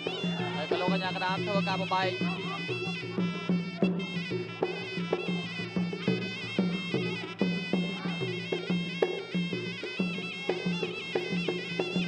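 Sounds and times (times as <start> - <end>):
reed oboe melody: 0.0 - 12.0.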